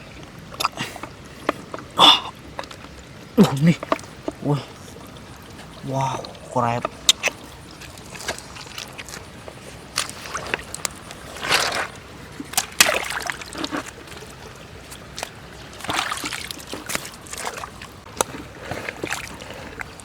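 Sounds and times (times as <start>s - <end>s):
shallow water splashing: 0.0s - 20.0s.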